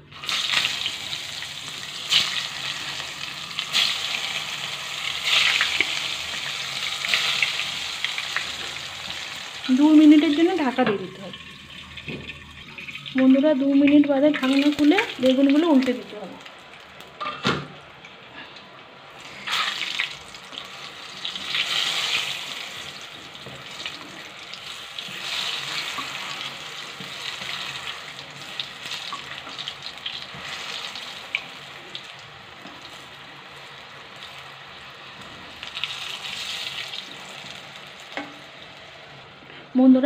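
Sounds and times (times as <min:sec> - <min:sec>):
slices sizzling in oil: 0:00.0 - 0:17.2, 0:19.1 - 0:39.4.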